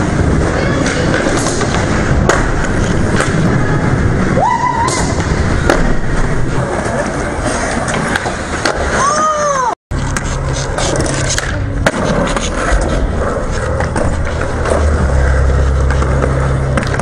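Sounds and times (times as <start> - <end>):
skateboard wheels rolling on concrete: 0.0 - 17.0.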